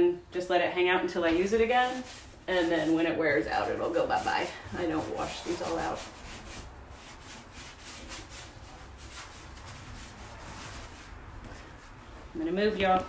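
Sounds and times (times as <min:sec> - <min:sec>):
foam brush scrubbing on wood: 0:00.8 - 0:13.0.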